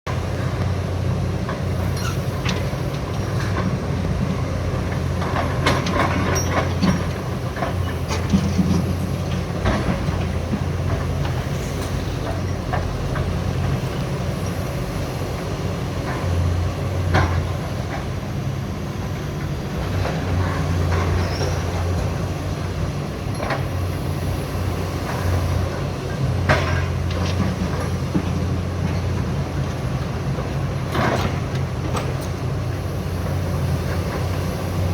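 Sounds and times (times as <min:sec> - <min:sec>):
diesel engine drone: 0:00.1 - 0:34.9.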